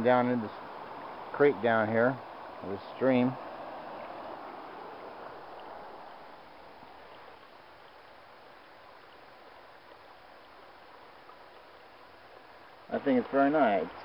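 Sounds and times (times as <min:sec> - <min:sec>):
creek water flowing: 0:00.0 - 0:14.0.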